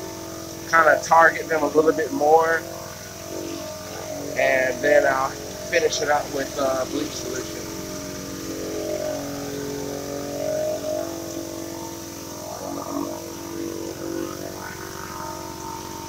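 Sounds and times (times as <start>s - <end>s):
pressure washer droning: 0.0s - 16.0s.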